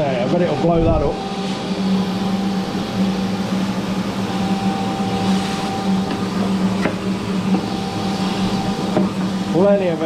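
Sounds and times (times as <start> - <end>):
forge blower fan humming: 0.0 - 10.0
air rushing from fan outlet: 0.6 - 10.0.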